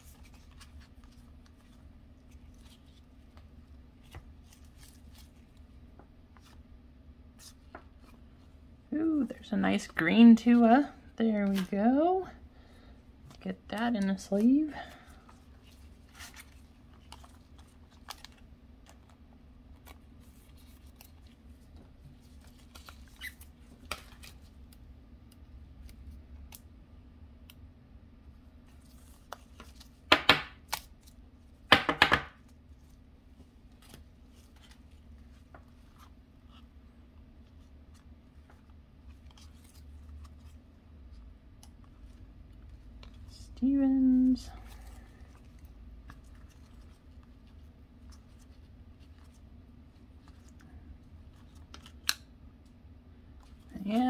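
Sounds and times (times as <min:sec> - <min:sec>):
cards rustling and clicking: 0:00.0 - 0:06.7, 0:13.2 - 0:26.7, 0:28.6 - 0:43.3, 0:44.0 - 0:54.0.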